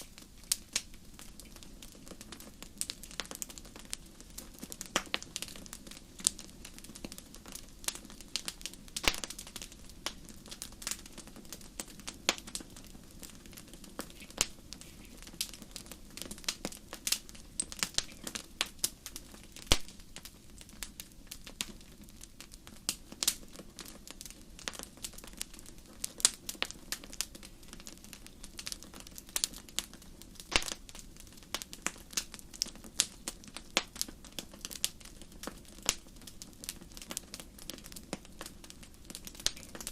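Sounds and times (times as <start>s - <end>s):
low rumble of flame: 0.0s - 39.9s
wood fire crackling and popping: 0.0s - 39.9s.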